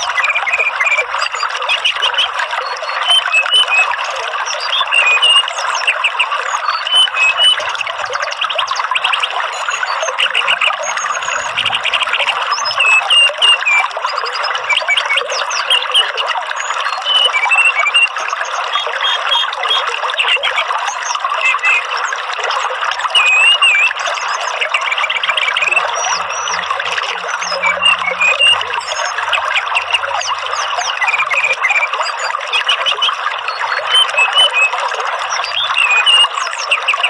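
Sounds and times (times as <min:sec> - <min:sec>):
thrush singing whistled phrases: 0:00.0 - 0:22.3, 0:22.9 - 0:37.0
running water: 0:00.0 - 0:37.0.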